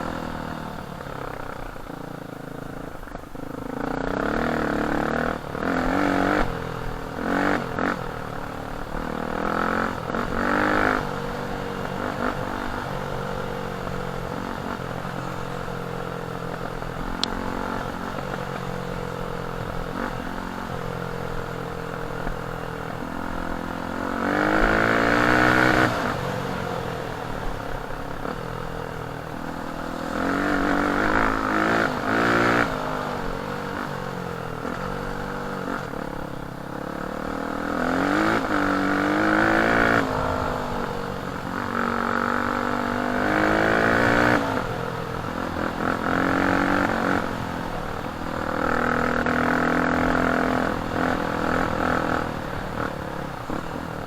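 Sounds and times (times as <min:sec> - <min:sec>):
dirt bike engine revving: 0:02.9 - 0:15.8, 0:23.0 - 0:53.8.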